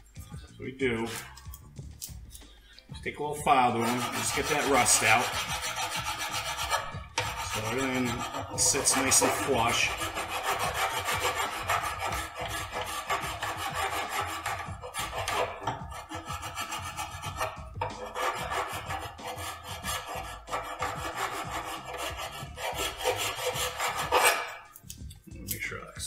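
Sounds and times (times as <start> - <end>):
file scraping on metal: 1.0 - 1.6, 3.4 - 24.8.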